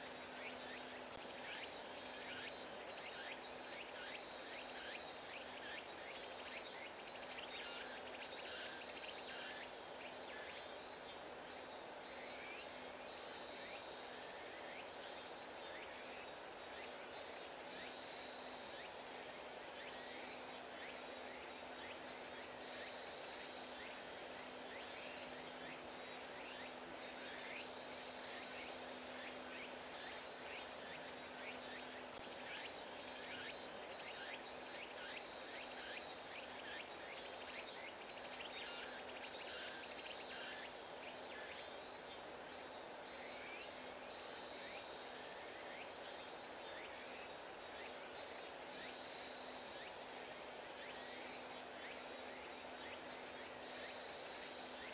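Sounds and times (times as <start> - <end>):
insects chirping in trills: 0.0 - 54.9.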